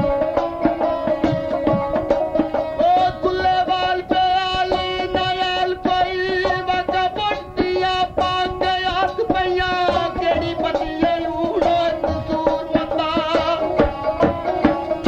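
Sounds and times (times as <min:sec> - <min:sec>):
drum strokes: 0:00.0 - 0:15.0
wavering folk melody: 0:00.0 - 0:15.0.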